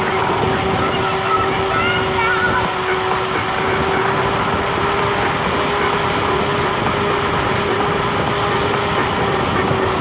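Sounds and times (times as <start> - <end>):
electric scooter whine: 0.0 - 10.0
wind and road noise: 0.0 - 10.0.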